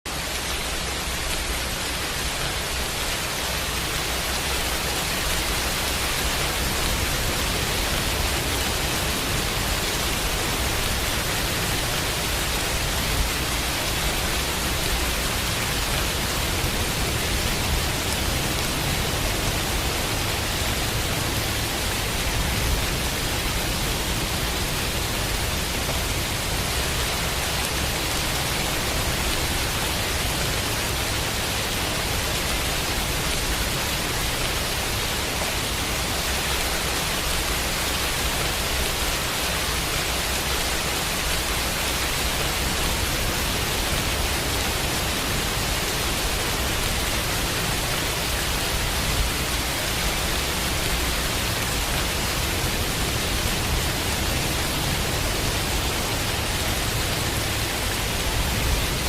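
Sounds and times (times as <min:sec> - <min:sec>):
steady dense rain: 0:00.1 - 0:59.0.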